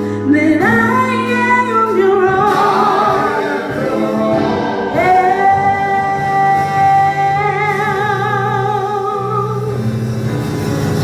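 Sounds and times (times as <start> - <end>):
gospel worship singing: 0.5 - 10.2.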